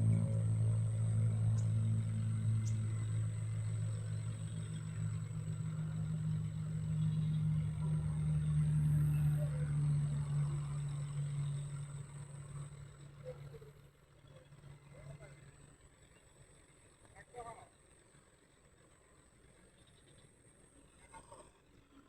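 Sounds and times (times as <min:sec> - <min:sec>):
excavator diesel engine running: 0:00.0 - 0:21.8.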